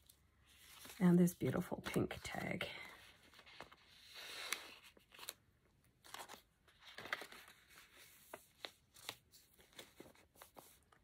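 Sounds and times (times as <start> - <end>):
paper pages rustling: 0.0 - 11.0.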